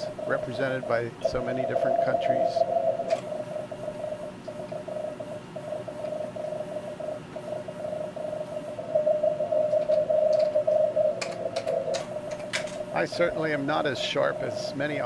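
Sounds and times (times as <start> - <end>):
morse code tones: 0.0 - 15.0
radio band hiss: 0.0 - 15.0.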